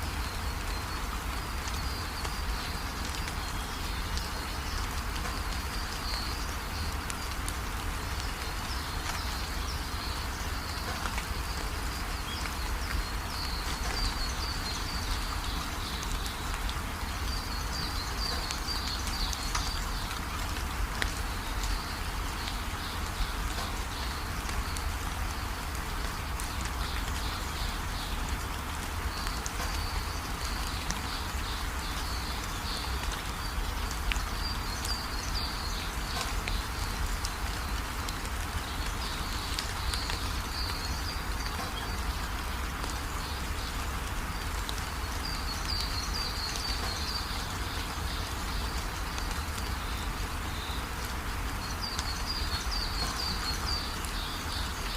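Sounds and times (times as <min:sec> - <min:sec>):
steady rainfall: 0:00.0 - 0:54.9.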